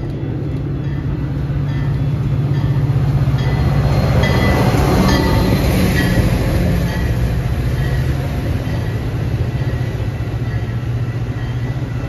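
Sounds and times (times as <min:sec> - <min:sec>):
diesel train deep drone: 0:00.0 - 0:12.0.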